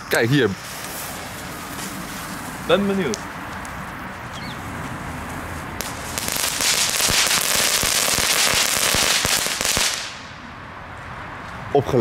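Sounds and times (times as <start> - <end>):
ground firework crackling: 0.0 - 10.5.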